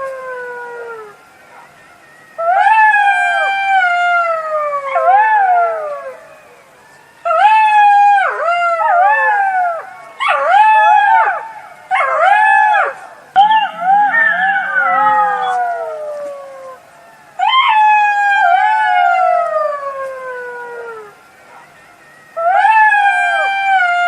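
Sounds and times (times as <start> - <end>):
jackals howling: 0.0 - 24.0.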